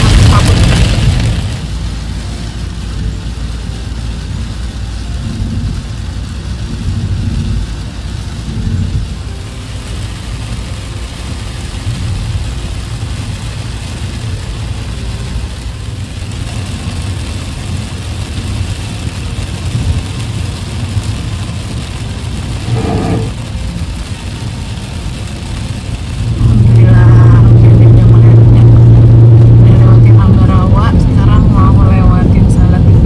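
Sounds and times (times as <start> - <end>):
car engine and tyre noise: 0.0 - 33.0
rain hiss on wet road: 0.0 - 33.0.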